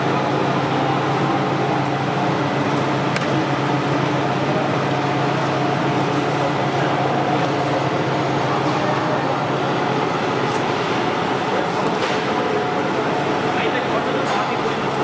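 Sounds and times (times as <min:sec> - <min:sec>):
extrusion machinery running: 0:00.0 - 0:15.0.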